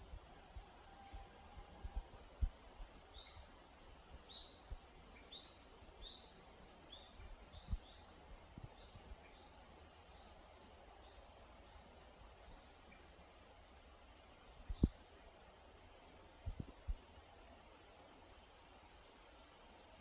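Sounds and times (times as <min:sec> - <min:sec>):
faint outdoor hiss: 0:00.0 - 0:20.0.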